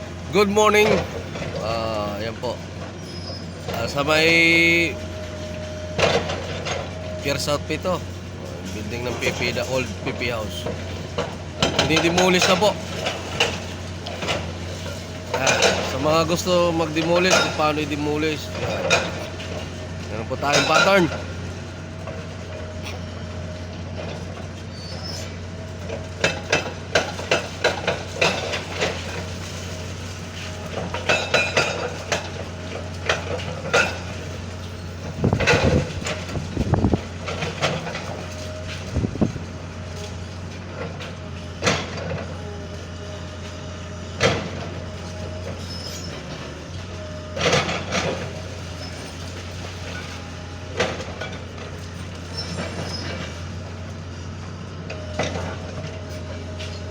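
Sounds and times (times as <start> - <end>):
debris clanking and crashing: 0.0 - 54.2
backhoe engine running: 0.0 - 56.9.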